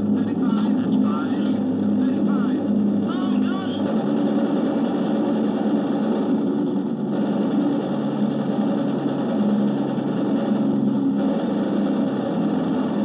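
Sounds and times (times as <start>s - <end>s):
aircraft piston engines droning: 0.0s - 13.0s.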